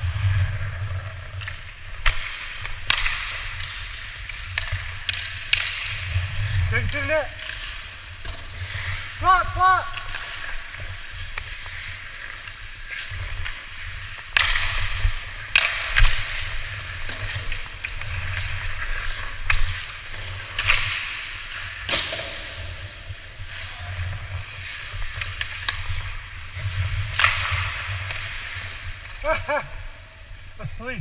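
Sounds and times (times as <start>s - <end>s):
skates scraping on ice: 0.0s - 31.0s
sticks and puck clacking: 0.1s - 30.4s.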